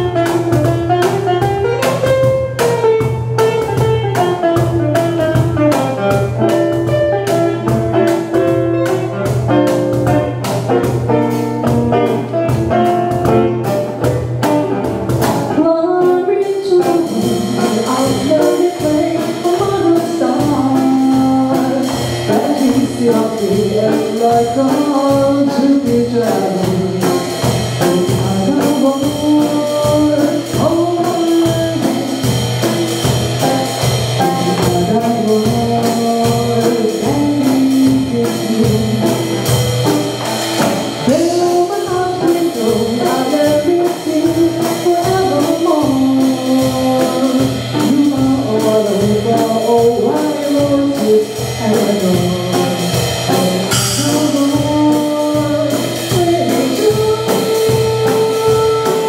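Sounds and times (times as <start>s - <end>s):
acoustic guitar: 0.0s - 59.0s
cajon beat: 0.0s - 59.0s
woman singing: 0.0s - 59.0s.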